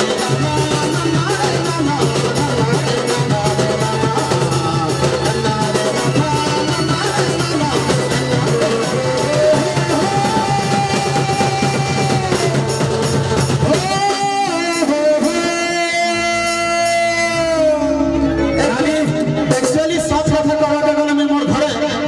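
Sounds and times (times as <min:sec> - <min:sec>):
busy drum rhythm: 0:00.0 - 0:22.0
keyboards: 0:00.0 - 0:22.0.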